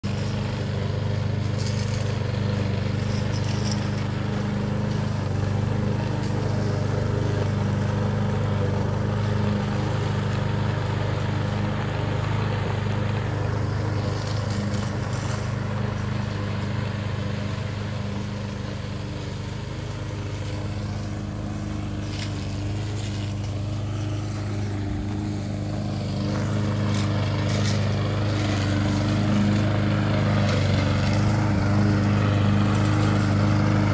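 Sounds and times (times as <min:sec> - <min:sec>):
lawn mower cutting grass: 0:00.0 - 0:33.9.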